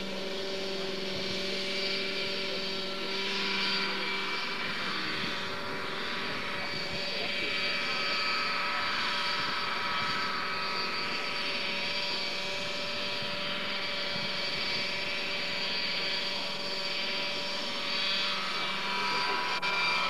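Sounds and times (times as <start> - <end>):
model helicopter engine and rotor: 0.0 - 20.0.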